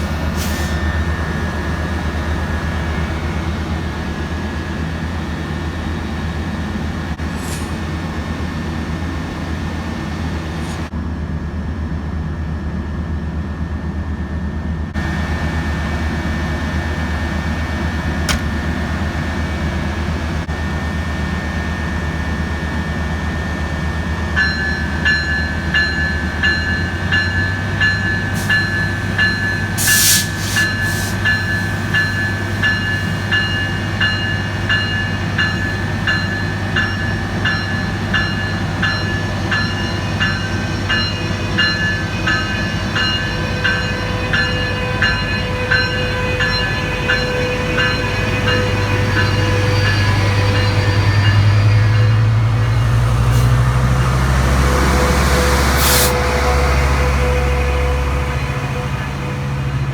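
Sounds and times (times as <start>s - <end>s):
railroad bell ringing: 0.0s - 10.9s, 15.0s - 59.9s
diesel train engine rumbling: 0.0s - 59.9s.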